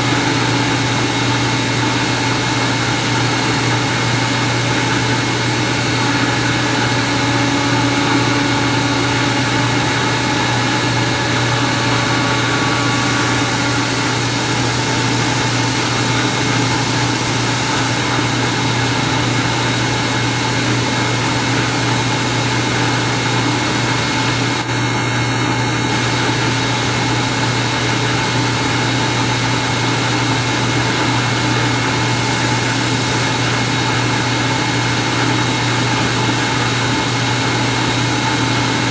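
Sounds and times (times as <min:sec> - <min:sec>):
industrial machine hum: 0:00.0 - 0:38.9.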